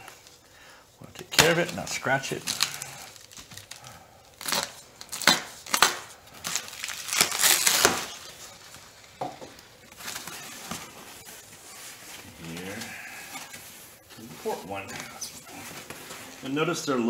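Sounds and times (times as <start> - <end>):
plastic wrap crinkling and tearing: 1.1 - 16.6.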